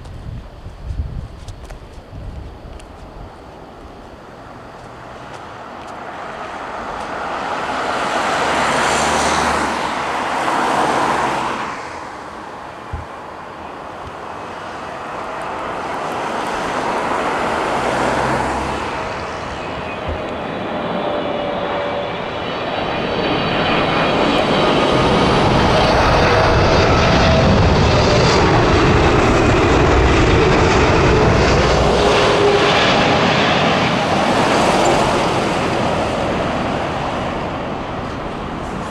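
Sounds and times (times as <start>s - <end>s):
jet airliner passing: 0.0s - 38.9s.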